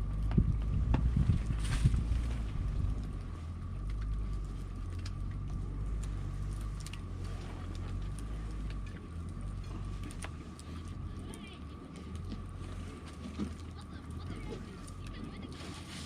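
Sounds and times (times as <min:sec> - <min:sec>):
campfire crackling: 0:00.0 - 0:16.0
low rumble: 0:00.0 - 0:16.0.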